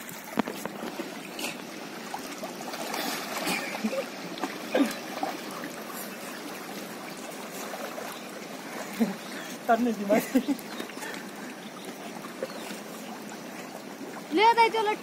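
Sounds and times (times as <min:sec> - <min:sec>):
people wading and splashing: 0:00.0 - 0:15.0.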